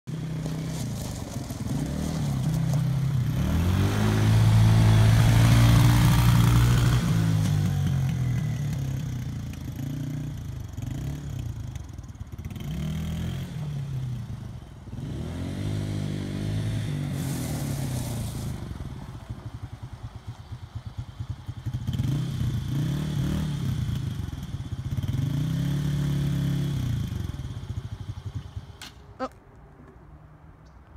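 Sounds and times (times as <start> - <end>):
atv engine revving: 0.1 - 28.8.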